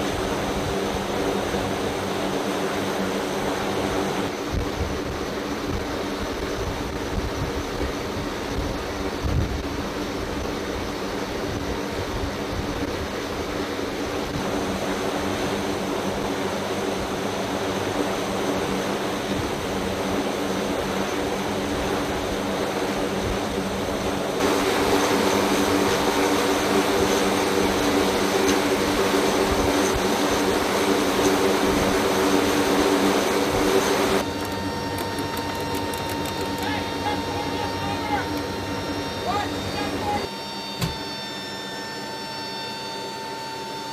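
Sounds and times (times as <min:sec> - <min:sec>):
turboprop engines droning: 0:00.0 - 0:43.9.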